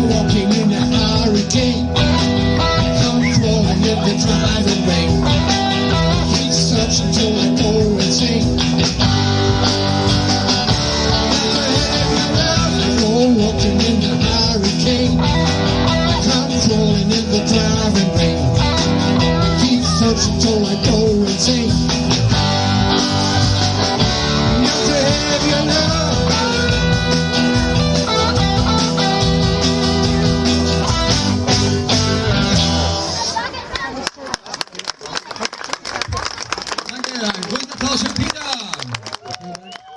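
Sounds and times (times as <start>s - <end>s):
instrumental rock music: 0.0s - 33.6s
lead guitar: 0.0s - 34.0s.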